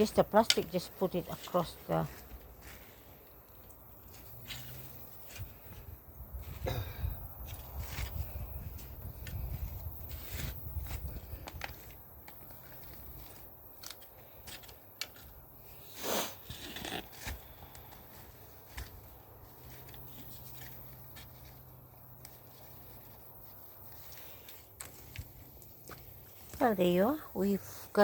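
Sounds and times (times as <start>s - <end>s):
hands digging through soil: 0.0s - 28.0s.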